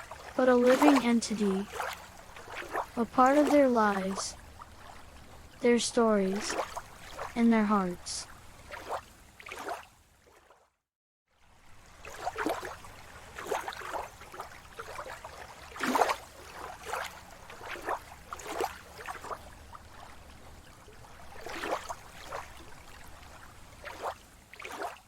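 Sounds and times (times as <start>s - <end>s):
sea water lapping and splashing: 0.0s - 25.0s.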